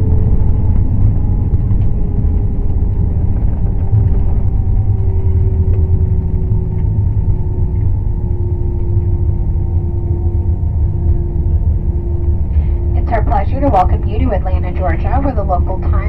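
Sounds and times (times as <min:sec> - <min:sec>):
aircraft cabin low rumble: 0:00.0 - 0:16.0
steady jet engine tone: 0:00.0 - 0:16.0.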